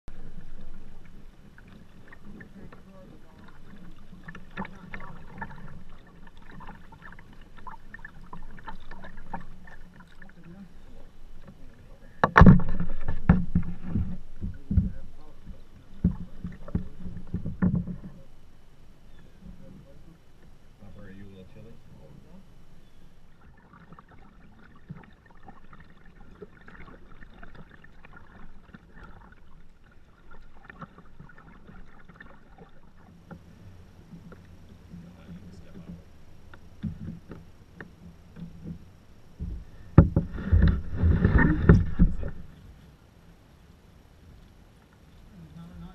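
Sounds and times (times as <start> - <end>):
low steady rumble: 0.0 - 45.9
paddle splashing water: 0.1 - 43.4.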